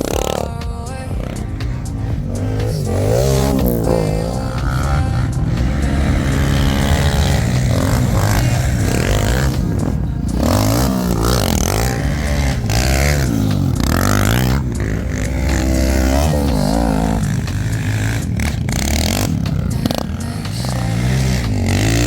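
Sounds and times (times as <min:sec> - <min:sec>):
quad engine revving: 0:00.0 - 0:22.0.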